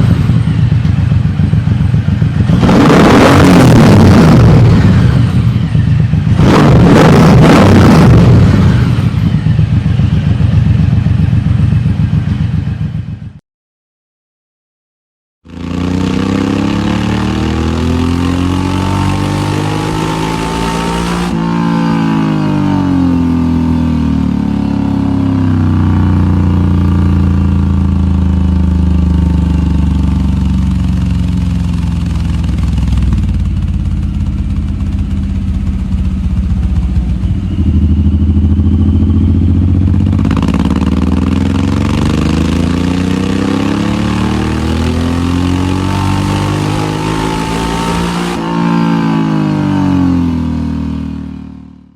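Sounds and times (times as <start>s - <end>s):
motorcycle engine revving: 0.0s - 13.4s, 15.4s - 51.9s.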